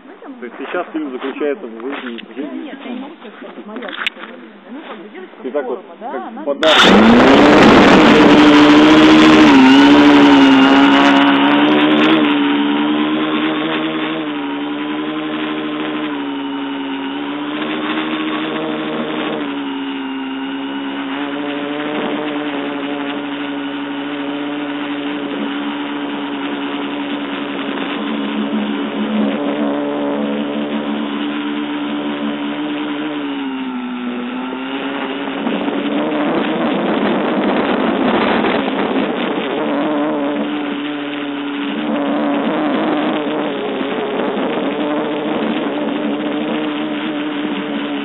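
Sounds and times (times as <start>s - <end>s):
drone propellers buzzing: 6.6s - 48.0s.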